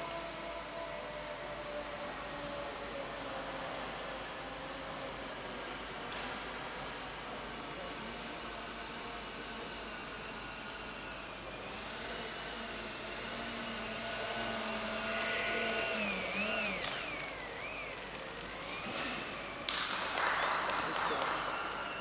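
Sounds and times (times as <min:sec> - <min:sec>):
electric motor whining: 0:00.1 - 0:22.0.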